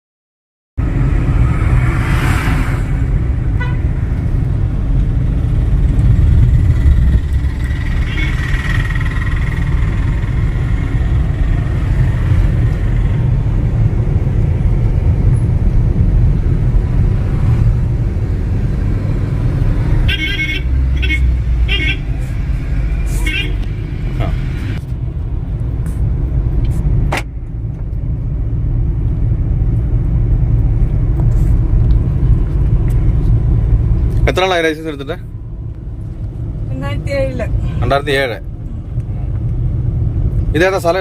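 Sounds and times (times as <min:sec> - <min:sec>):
car road and engine rumble: 0:00.8 - 0:41.0.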